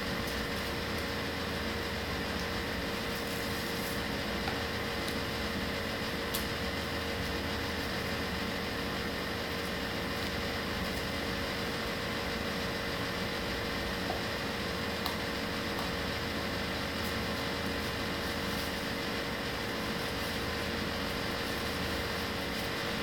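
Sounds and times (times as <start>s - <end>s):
mechanical room hum: 0.0s - 23.0s.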